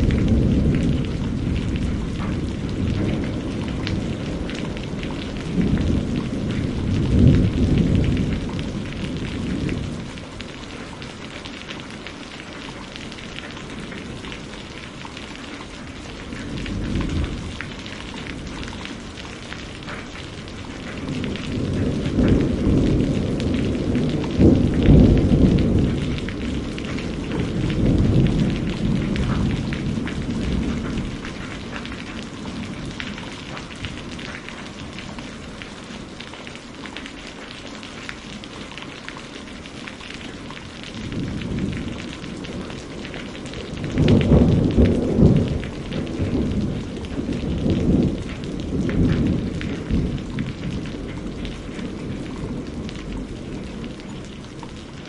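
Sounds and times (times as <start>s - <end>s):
rolling thunder: 0.0s - 11.0s, 15.9s - 36.2s, 40.8s - 55.0s
steady rain falling: 0.0s - 55.0s.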